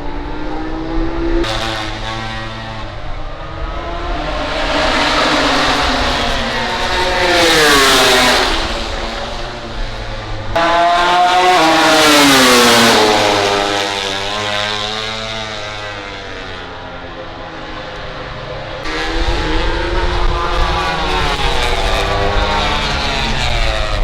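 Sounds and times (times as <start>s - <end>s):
racing motorcycles passing: 0.0s - 24.0s.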